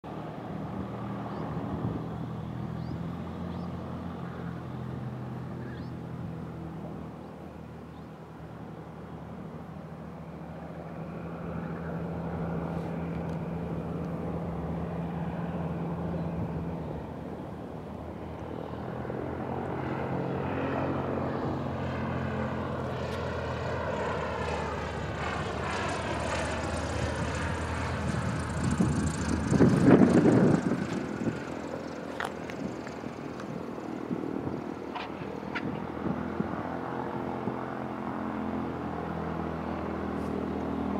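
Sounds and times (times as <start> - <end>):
small plane engine and propeller: 0.0 - 40.9.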